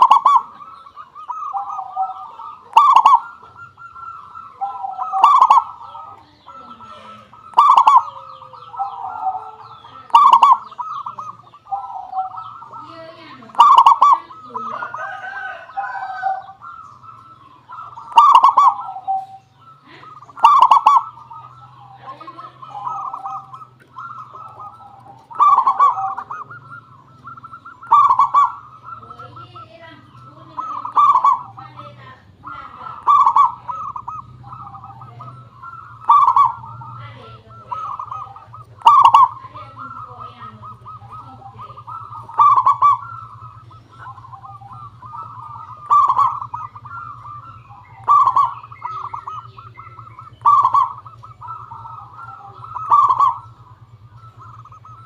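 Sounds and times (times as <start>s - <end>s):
doves trilling coo: 0.0s - 55.0s
low steady hum: 0.0s - 55.0s
soft bird cooing: 0.0s - 55.0s.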